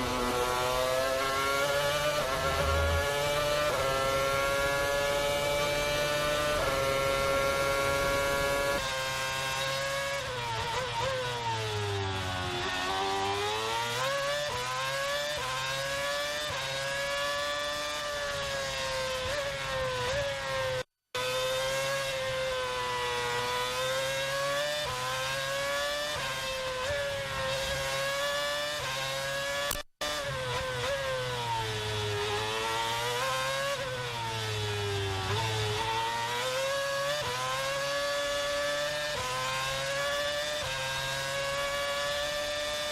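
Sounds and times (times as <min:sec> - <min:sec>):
racing car engine: 0:00.0 - 0:42.9.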